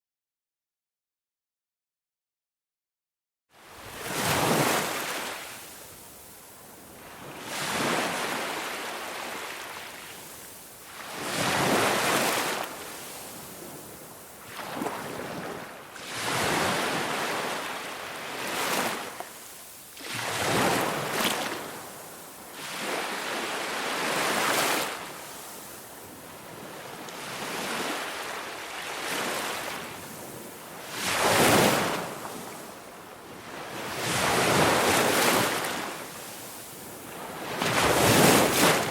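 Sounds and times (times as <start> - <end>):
ocean waves breaking on beach: 3.6 - 38.9.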